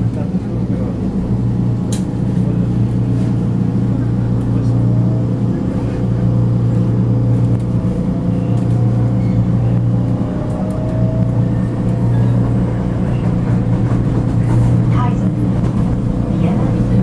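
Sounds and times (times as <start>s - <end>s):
metro train rumble inside car: 0.0s - 17.0s.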